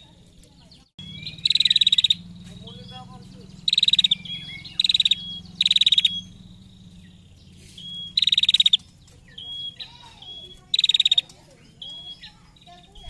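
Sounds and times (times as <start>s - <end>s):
bird rattling trill: 0.0s - 13.0s
thin bird whistles: 1.0s - 13.0s.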